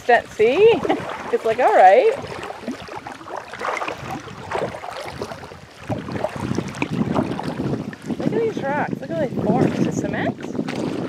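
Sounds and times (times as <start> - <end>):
waves lapping against hull: 0.0 - 11.0
wind buffeting microphone: 0.0 - 11.0.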